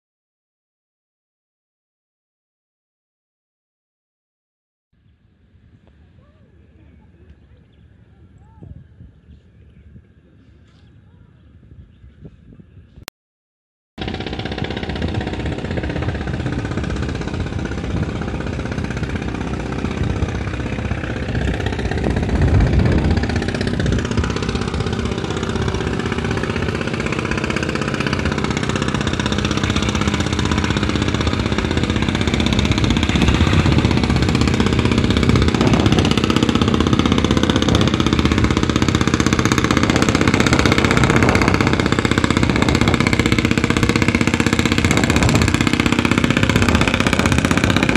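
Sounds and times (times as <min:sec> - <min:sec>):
boat engine running: 0:05.2 - 0:11.8, 0:14.0 - 0:47.9.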